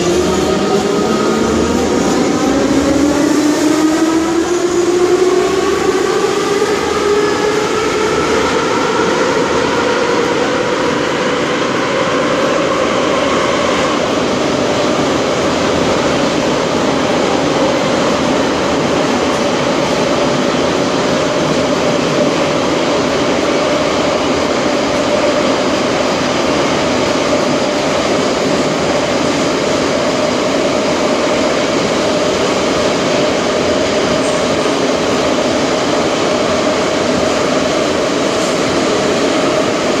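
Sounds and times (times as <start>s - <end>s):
train wheels running on track: 0.0s - 40.0s.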